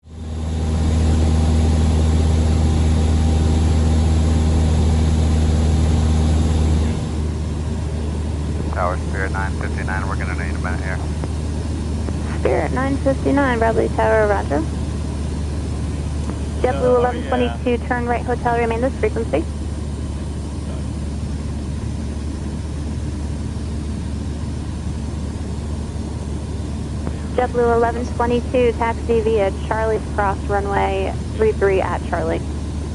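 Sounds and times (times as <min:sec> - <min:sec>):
plane engine and propeller droning: 0:00.0 - 0:32.9.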